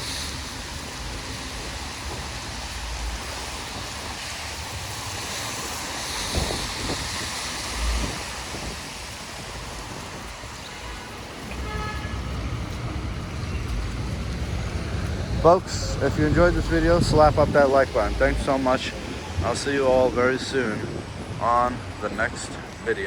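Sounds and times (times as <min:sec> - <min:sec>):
hiss of wet road traffic: 0:00.0 - 0:23.0
wind buffeting microphone: 0:00.0 - 0:23.0.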